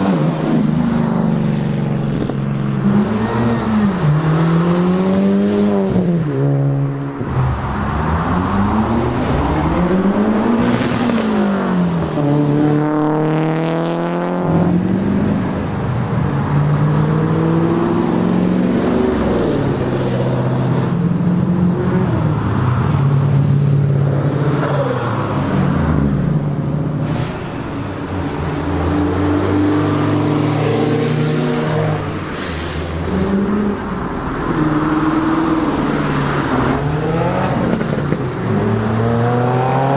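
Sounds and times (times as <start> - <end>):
sports cars revving and accelerating: 0.0 - 39.9.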